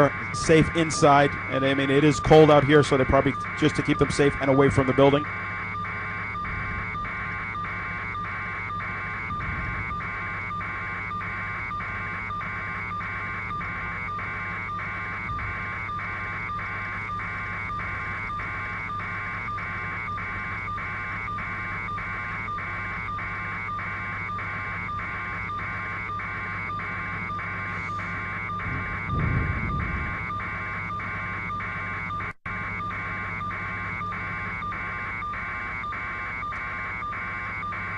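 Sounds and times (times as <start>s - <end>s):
helicopter cabin hum: 0.0s - 37.9s
pulsing high tone: 0.0s - 37.9s.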